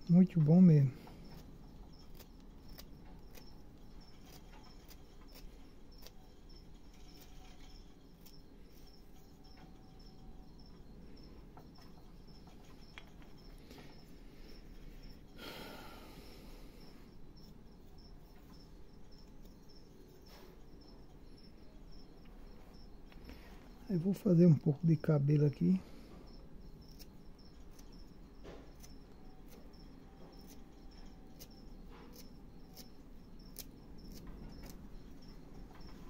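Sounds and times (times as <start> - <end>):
crickets chirping: 0.0 - 36.0.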